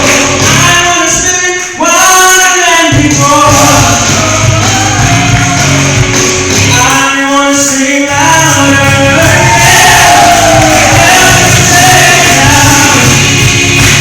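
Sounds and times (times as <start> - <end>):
man singing: 0.0 - 13.5
gospel band playing: 0.0 - 14.0.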